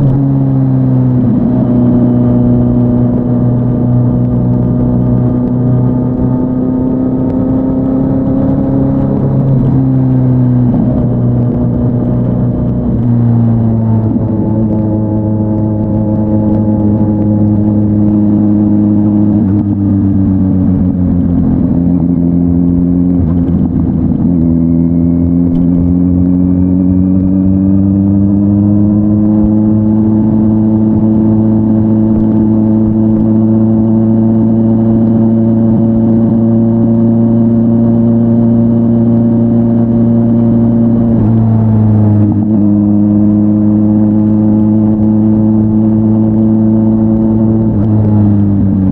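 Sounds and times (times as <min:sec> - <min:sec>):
motorcycle engine riding along: 0:00.0 - 0:48.9.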